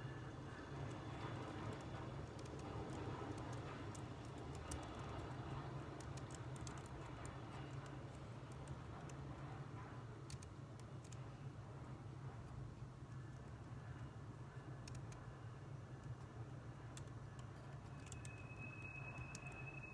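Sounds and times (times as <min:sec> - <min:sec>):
typing on a keyboard: 0:00.5 - 0:11.3, 0:13.2 - 0:19.9.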